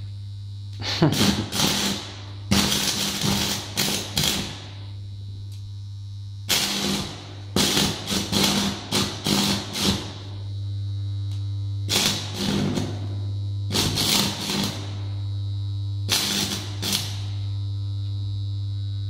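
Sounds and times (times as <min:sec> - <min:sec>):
transformer hum: 0:00.0 - 0:19.0
welding arc crackling: 0:00.0 - 0:19.0.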